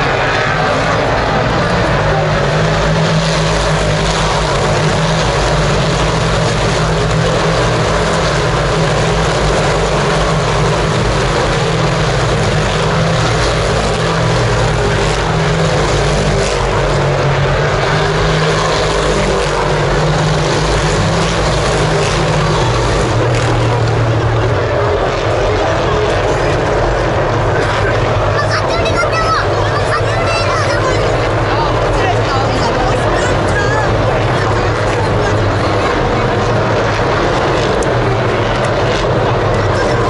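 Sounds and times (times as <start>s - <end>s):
race car engines droning: 0.0s - 40.0s.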